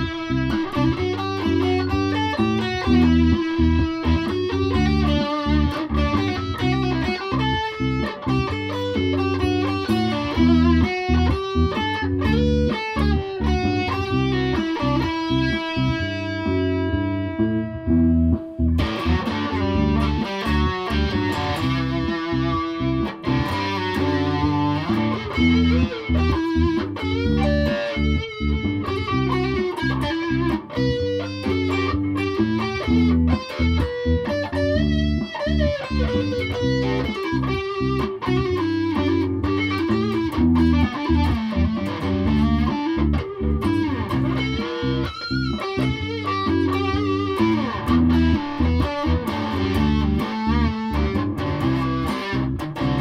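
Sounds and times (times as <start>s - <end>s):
electric bass plucked notes: 0.0s - 53.0s.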